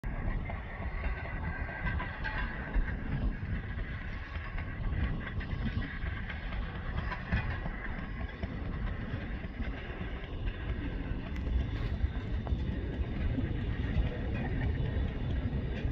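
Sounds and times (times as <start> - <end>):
rail motorcar rumbling on track: 0.0 - 15.9.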